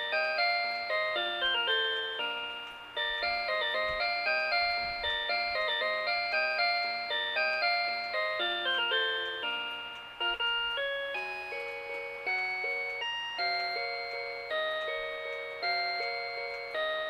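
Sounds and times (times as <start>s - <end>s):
alarm clock melody: 0.0s - 17.0s.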